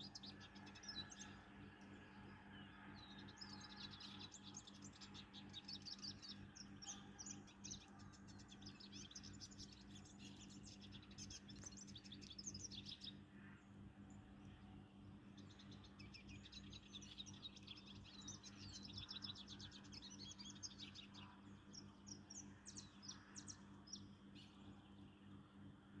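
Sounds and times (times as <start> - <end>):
songbird twittering: 0.0 - 13.2, 15.3 - 25.2.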